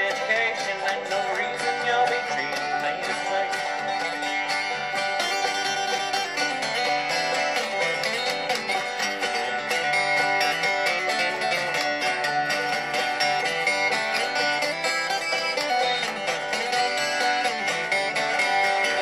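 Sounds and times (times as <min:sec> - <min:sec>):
acoustic guitar picking and strumming: 0:00.0 - 0:19.0.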